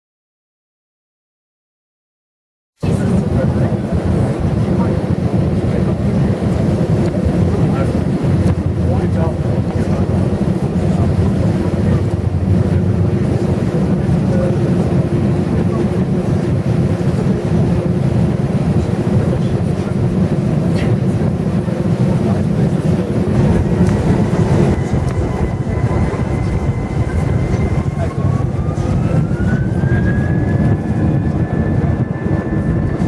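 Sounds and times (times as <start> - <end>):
jet engine and wheel rumble: 2.8 - 33.0
jet engine whine rising: 2.8 - 33.0.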